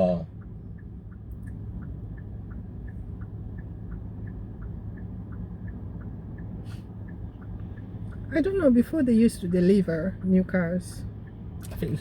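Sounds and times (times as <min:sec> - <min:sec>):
car road and engine rumble: 0:00.0 - 0:12.0
turn signal ticking: 0:00.0 - 0:12.0.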